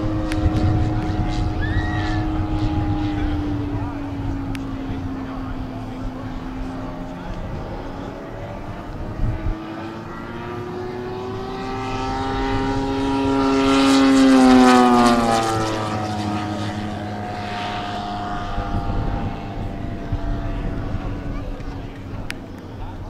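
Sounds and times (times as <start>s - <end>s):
model plane propeller flying past: 0.0s - 23.0s.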